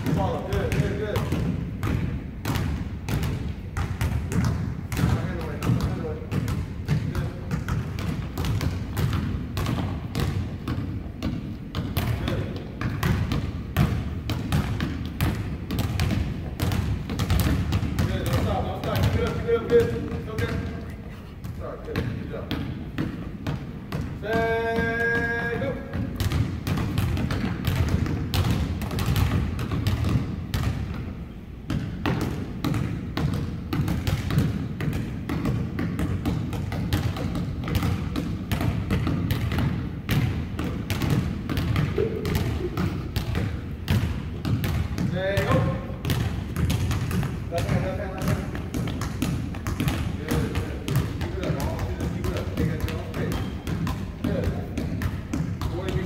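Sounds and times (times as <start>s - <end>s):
basketballs bouncing on wood floor: 0.0s - 56.0s.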